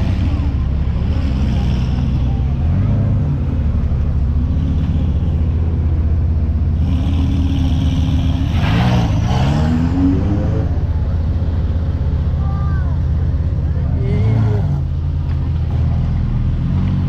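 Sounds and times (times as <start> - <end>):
car engines rumbling: 0.0 - 17.0
engine revving: 0.0 - 17.0.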